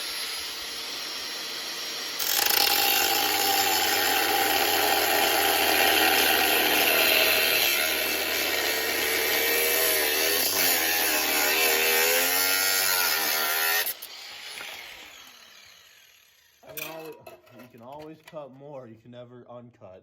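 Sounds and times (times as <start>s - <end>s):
power tool cutting metal: 0.0s - 17.0s.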